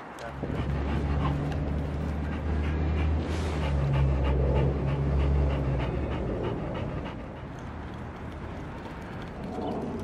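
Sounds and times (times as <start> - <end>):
dog panting: 0.2 - 10.0.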